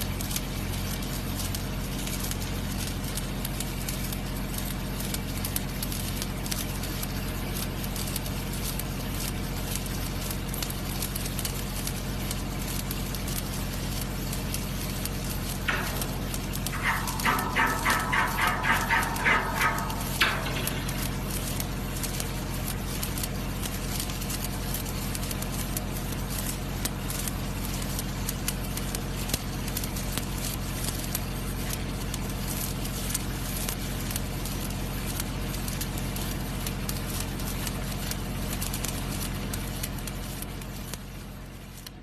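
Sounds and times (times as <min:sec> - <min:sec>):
arc welding crackling hiss: 0:00.0 - 0:42.0
steady electrical hum: 0:03.2 - 0:41.8.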